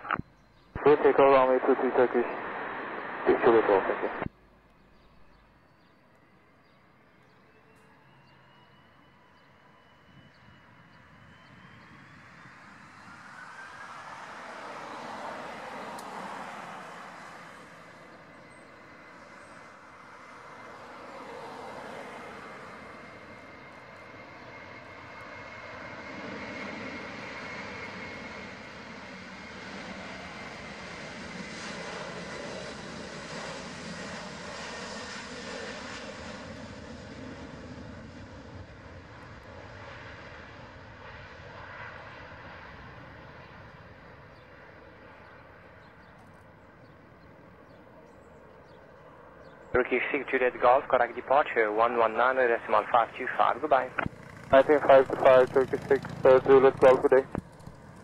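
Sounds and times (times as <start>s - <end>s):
jet engines at takeoff thrust: 0.0s - 58.0s.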